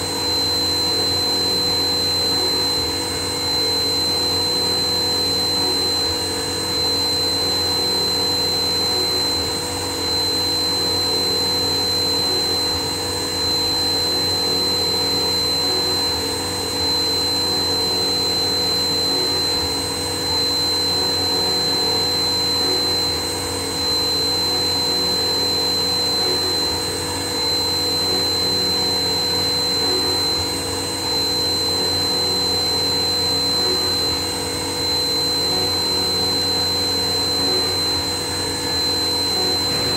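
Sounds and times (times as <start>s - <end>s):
machine high whine: 0.0s - 39.9s.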